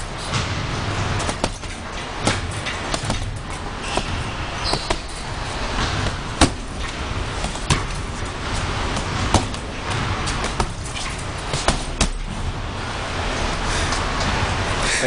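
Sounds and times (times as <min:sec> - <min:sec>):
boxing gloves punching heavy bag: 0:00.0 - 0:14.7
steady background noise: 0:00.0 - 0:15.0.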